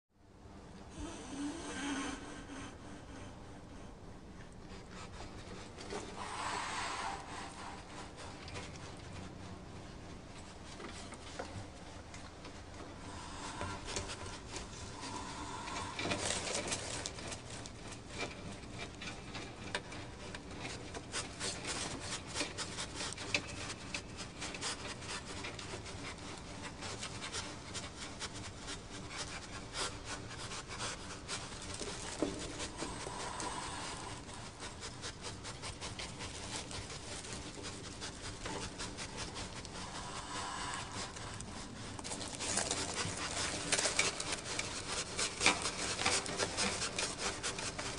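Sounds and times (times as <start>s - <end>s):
raccoons scratching and rummaging: 4.4s - 47.9s.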